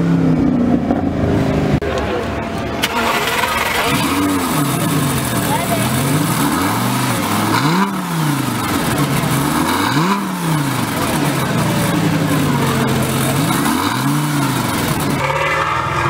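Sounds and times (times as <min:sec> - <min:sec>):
sports car engine idling and revving: 0:00.0 - 0:16.0.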